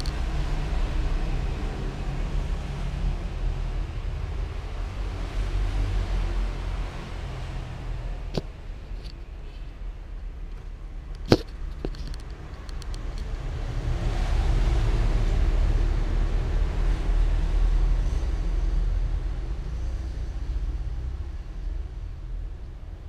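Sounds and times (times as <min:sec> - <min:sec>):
low rumbling noise: 0:00.0 - 0:23.0.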